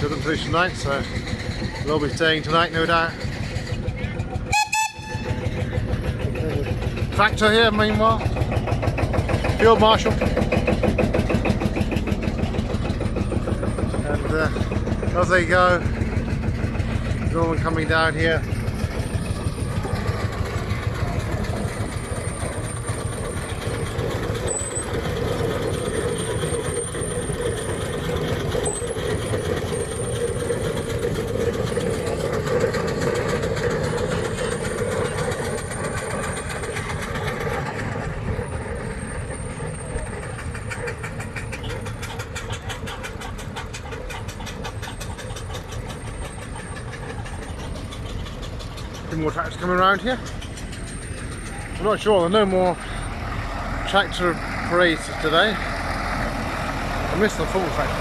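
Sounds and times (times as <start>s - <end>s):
tractor engines driving past: 0.0s - 58.0s.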